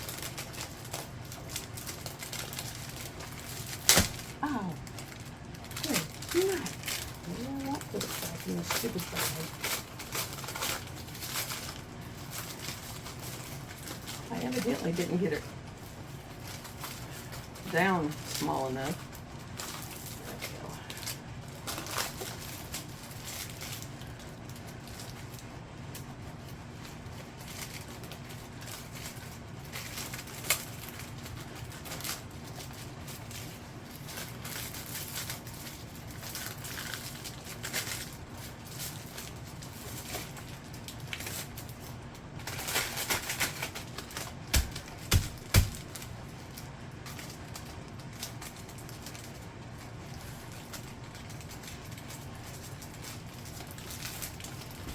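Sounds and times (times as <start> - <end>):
plastic packaging rustling: 0.0 - 54.9
steady low hum: 0.0 - 54.9.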